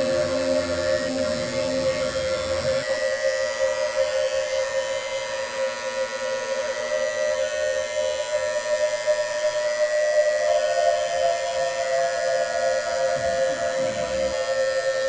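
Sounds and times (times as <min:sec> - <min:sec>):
steady buzzing drone: 0:00.0 - 0:15.0.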